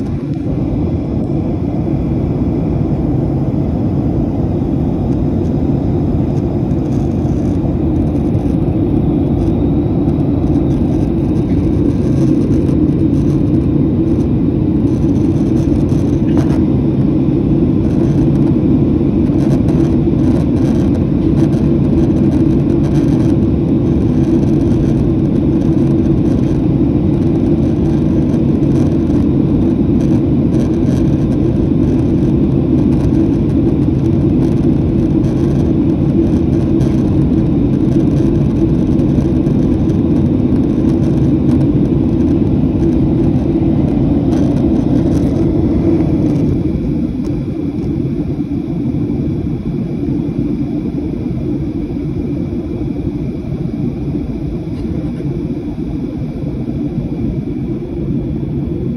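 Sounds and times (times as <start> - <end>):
jet engine cabin rumble: 0.0 - 58.9.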